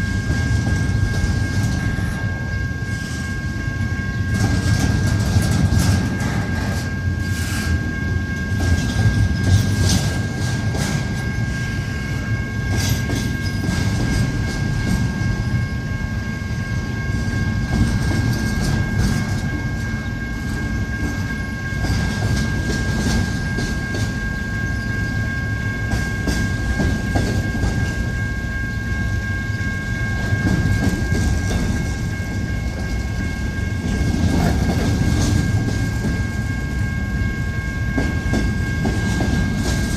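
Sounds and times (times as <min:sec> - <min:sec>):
freight train rumble: 0:00.0 - 0:39.9
high ringing tone: 0:00.0 - 0:39.9.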